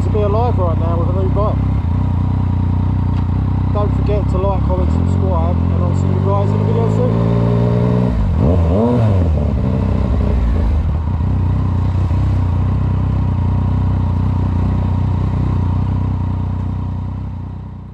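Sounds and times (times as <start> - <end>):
motorcycle engine idling and revving: 0.0 - 17.9.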